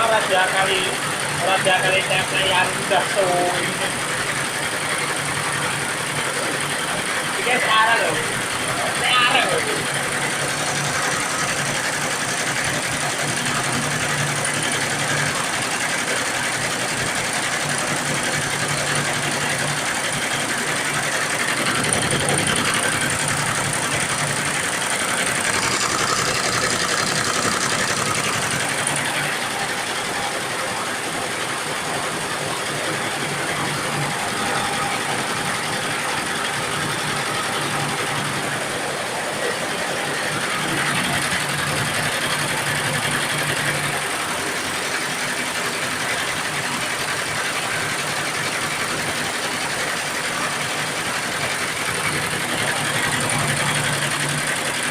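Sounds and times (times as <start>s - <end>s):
embroidery machine clattering: 0.0s - 54.9s.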